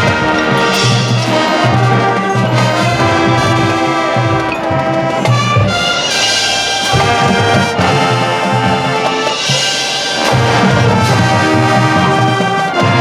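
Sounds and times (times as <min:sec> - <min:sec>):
brass sustained chords: 0:00.0 - 0:13.0
marching band playing: 0:00.0 - 0:13.0.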